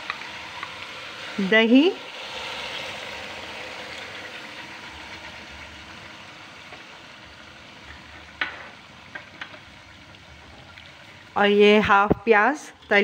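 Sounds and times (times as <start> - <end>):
food sizzling in pot: 0.0 - 13.0.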